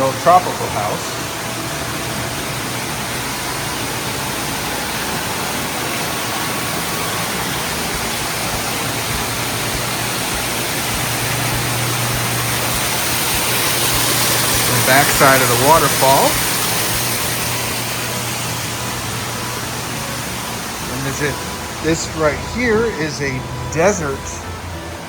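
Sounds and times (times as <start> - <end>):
water falling and splashing: 0.0 - 24.8.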